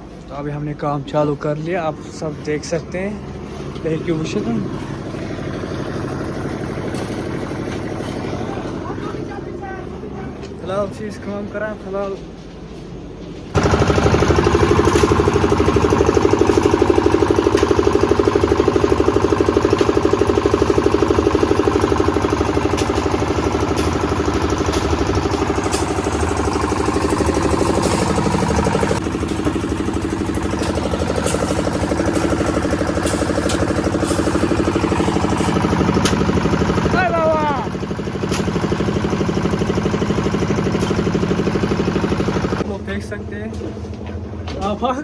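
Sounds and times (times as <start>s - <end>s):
machinery engine chugging: 0.1s - 45.0s.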